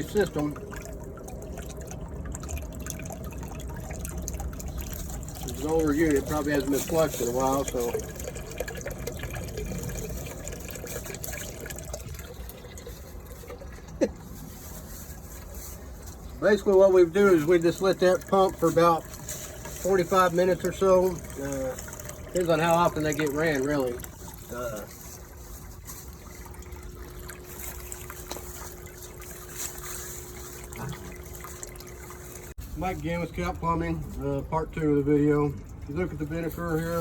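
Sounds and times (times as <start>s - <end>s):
liquid splashing into bucket: 0.0s - 32.6s
pump humming: 0.0s - 37.0s.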